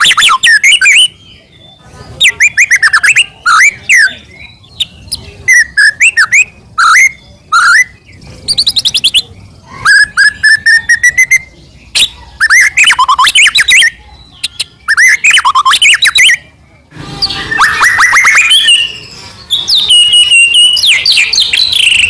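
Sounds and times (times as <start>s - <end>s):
bird singing whistled notes: 0.0s - 16.5s, 17.1s - 22.0s.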